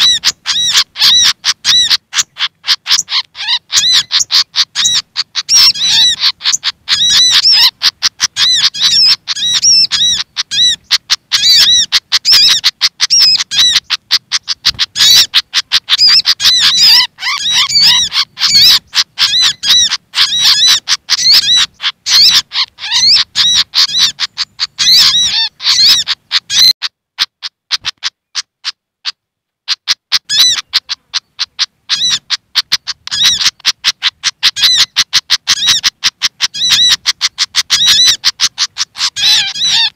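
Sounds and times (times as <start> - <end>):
bird calls: 0.0 - 39.9
bird chattering: 0.0 - 39.9.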